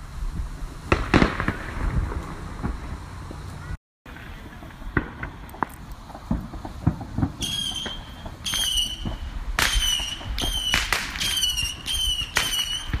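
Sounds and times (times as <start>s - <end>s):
fireworks popping: 0.0s - 13.0s
whistling fireworks: 0.0s - 13.0s.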